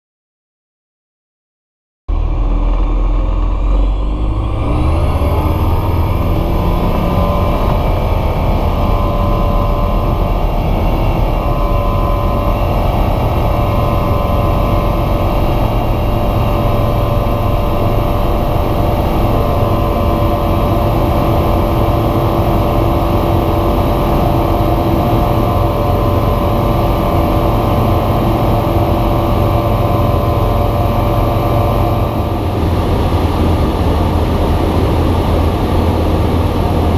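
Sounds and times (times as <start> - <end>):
light aircraft engine at full power: 2.1 - 36.9.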